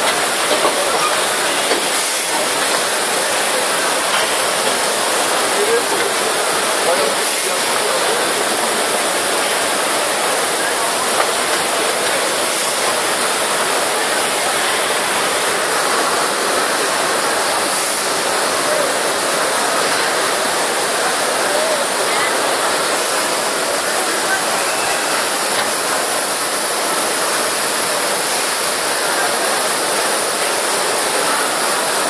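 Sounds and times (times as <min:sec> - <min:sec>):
busy exhibition hall noise: 0:00.0 - 0:32.0
indistinct voices: 0:00.0 - 0:32.0.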